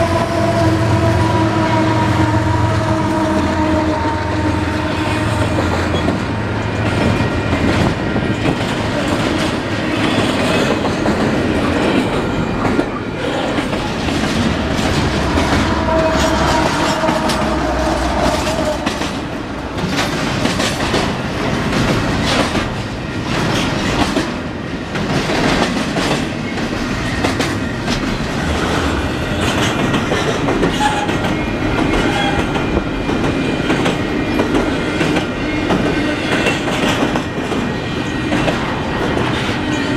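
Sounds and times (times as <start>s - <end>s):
train wheels clacking over rail joints: 5.2s - 39.9s.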